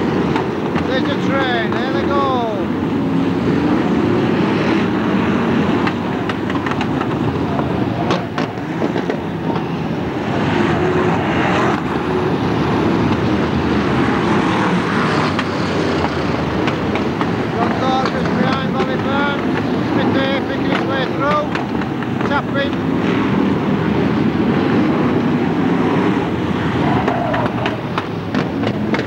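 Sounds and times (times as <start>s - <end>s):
many race car engines: 0.0s - 29.0s.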